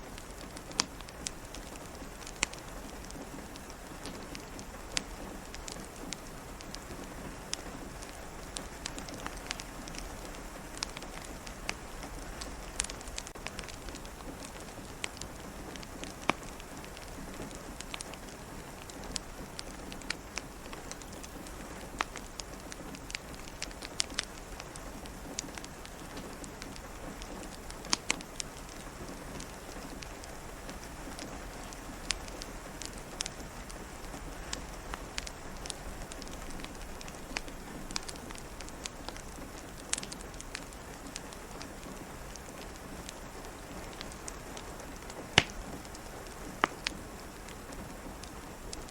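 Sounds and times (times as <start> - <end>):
rain pattering: 0.0 - 48.9
wood fire crackling: 0.0 - 48.9.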